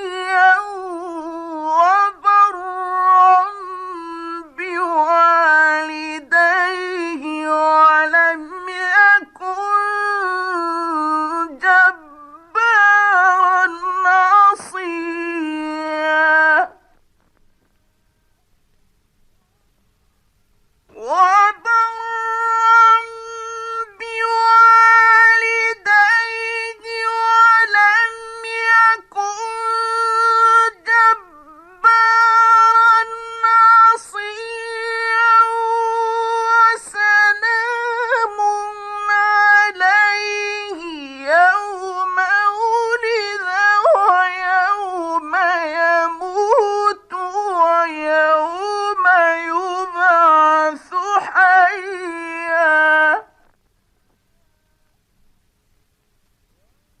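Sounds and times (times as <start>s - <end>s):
man reciting melodically: 0.0s - 17.4s, 20.9s - 53.6s.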